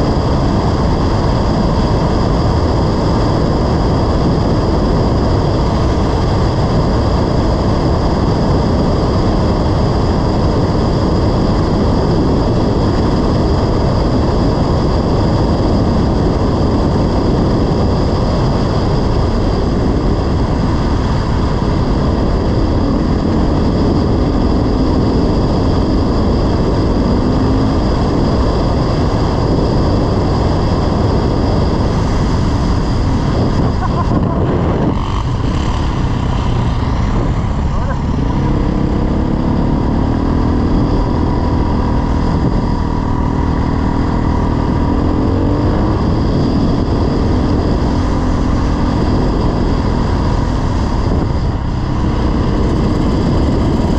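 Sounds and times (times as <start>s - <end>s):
dirt bike engine running: 0.0s - 53.9s
wind rush on microphone: 0.0s - 53.9s.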